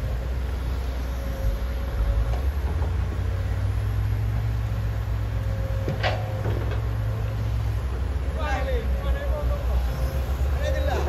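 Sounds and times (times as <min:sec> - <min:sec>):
diesel engines rumbling: 0:00.0 - 0:11.0.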